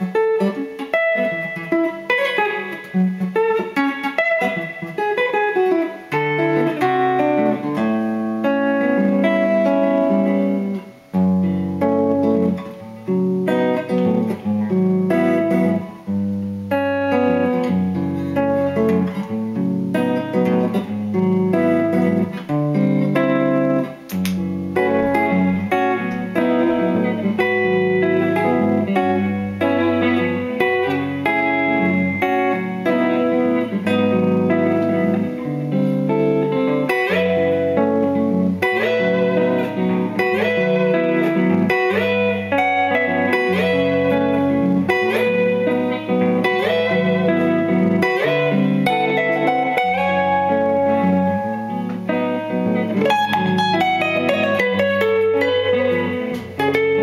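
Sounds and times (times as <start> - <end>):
electric guitar bass line: 0.0 - 57.0
plucked guitar melody: 0.0 - 57.0.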